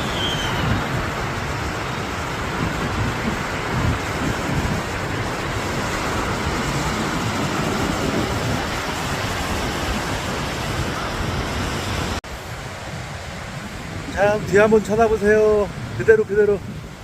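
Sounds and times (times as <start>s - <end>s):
surf breaking: 0.0s - 17.0s
wind buffeting microphone: 0.0s - 17.0s.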